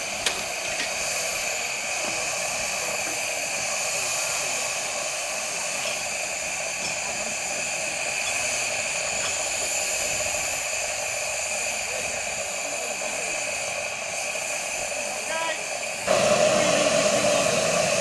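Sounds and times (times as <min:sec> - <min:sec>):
steam locomotive venting steam: 0:00.0 - 0:18.0.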